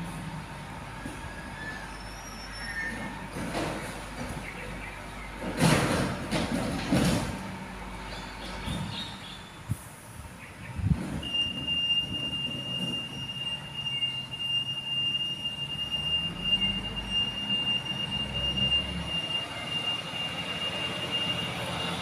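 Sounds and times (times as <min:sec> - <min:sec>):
truck engine rumble: 0:00.0 - 0:22.0.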